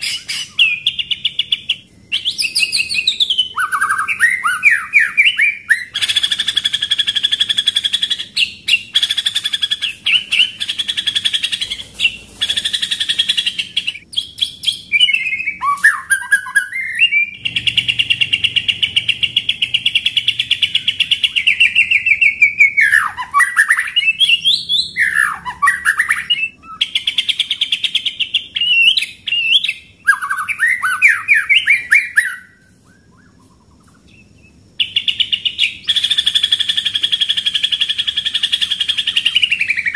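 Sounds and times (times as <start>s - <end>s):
songbird singing rapid notes: 0.0s - 39.9s.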